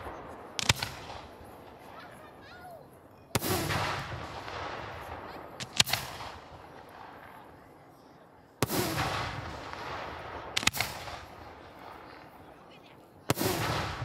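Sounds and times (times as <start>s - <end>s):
firework cracks: 0.0s - 2.5s, 3.3s - 7.7s, 8.6s - 12.5s, 13.3s - 14.0s.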